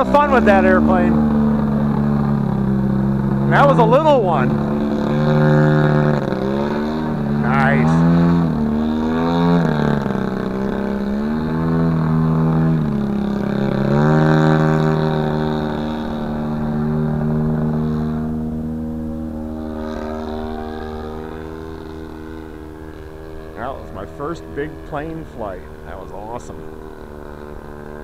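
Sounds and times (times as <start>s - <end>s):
model airplane engine droning: 0.0s - 28.0s.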